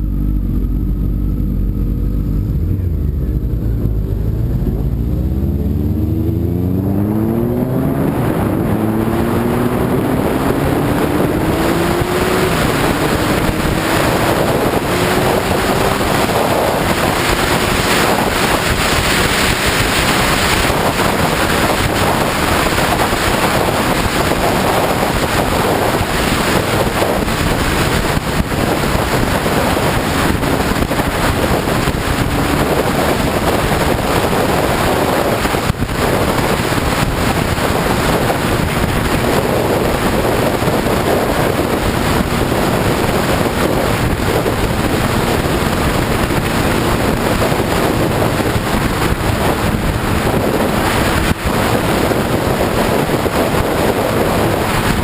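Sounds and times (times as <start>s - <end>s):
motorcycle engine accelerating: 0.0s - 55.0s
wind rush on microphone: 0.0s - 55.0s.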